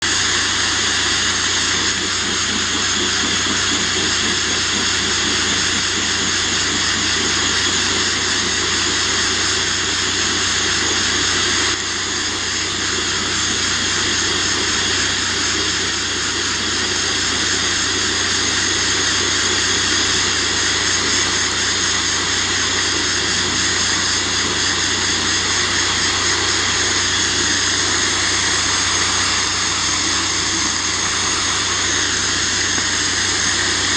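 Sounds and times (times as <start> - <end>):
blast nozzle hissing: 0.0 - 33.9.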